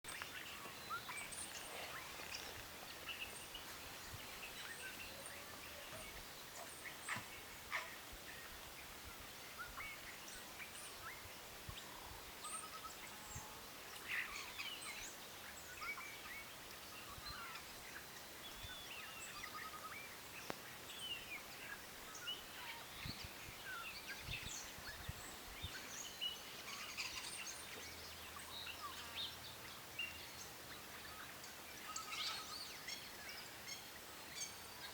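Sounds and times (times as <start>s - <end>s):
birds chirping and singing: 0.1s - 34.9s
faint background hiss: 0.1s - 34.9s.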